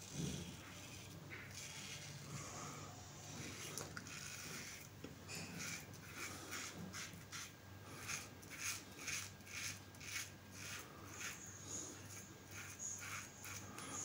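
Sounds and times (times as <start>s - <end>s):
razor scraping beard stubble: 0.0s - 14.0s.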